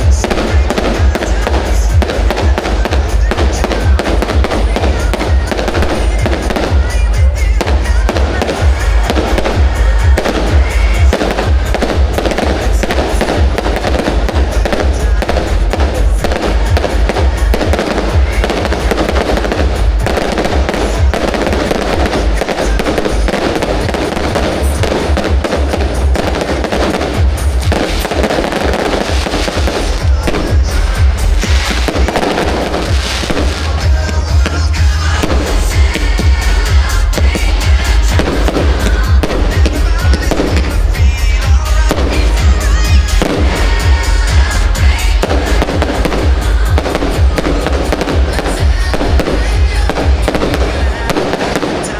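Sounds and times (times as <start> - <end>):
fireworks bangs and crackling: 0.0 - 51.9
show music: 0.0 - 51.9.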